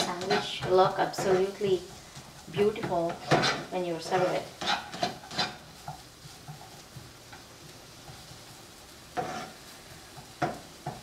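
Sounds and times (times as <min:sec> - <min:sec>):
spatula scraping a pan: 0:00.0 - 0:11.0
vegetables sizzling in a frying pan: 0:00.0 - 0:11.0.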